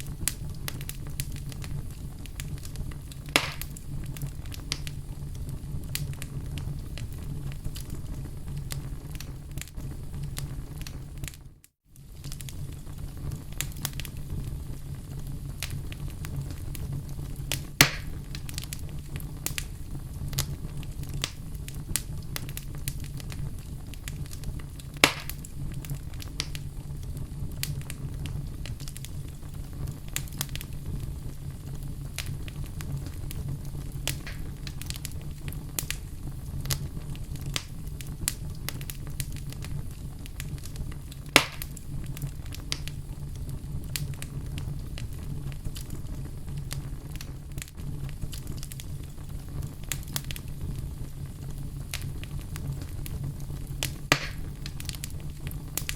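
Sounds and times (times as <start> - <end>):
loud fire pops: 0.0 - 55.9
wood fire crackling: 0.0 - 55.9.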